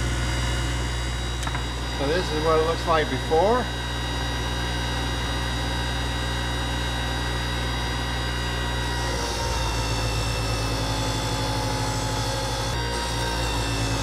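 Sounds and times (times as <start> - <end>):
wire wheel grinder humming: 0.0 - 14.0.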